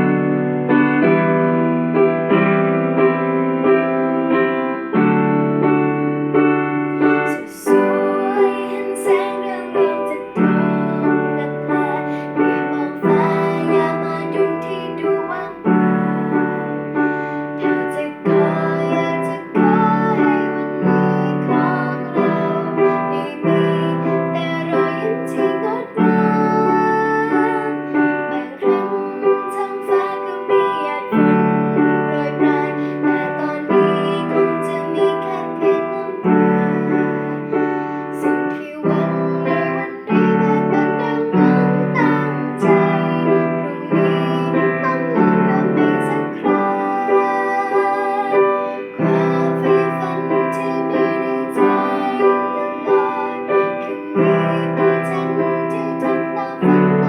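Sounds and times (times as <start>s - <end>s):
piano pop ballad: 0.0s - 57.0s.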